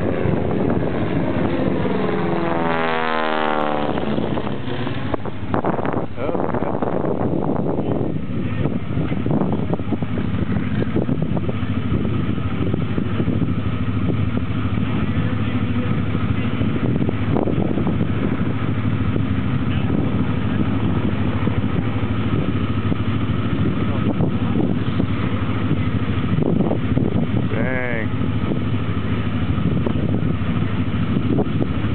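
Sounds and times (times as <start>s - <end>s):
steady engine drone: 0.0s - 31.9s.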